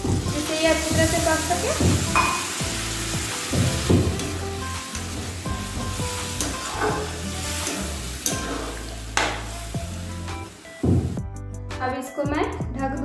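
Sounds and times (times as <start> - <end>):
curry simmering and sizzling: 0.0 - 11.2.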